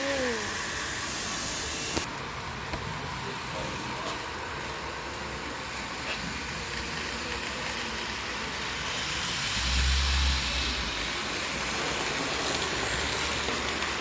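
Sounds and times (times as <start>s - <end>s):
model train wheels on rail: 0.0s - 14.0s.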